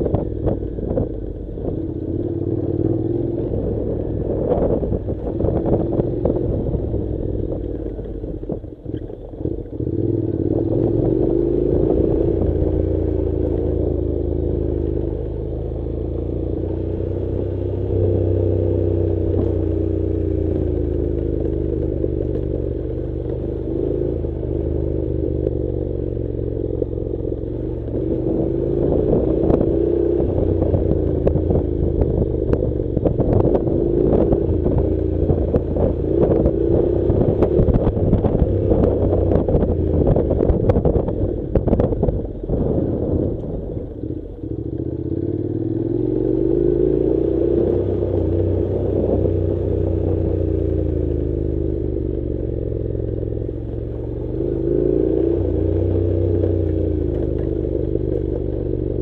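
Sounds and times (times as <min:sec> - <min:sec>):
motorcycle engine at low revs: 0:00.0 - 0:59.0.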